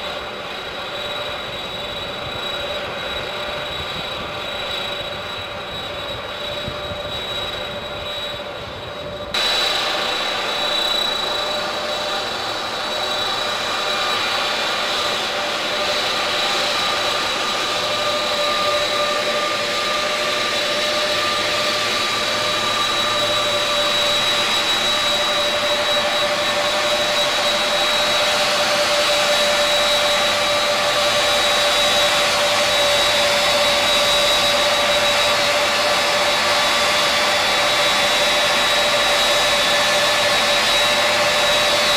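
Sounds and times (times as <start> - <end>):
jet engines roaring and whining: 0.0 - 41.9.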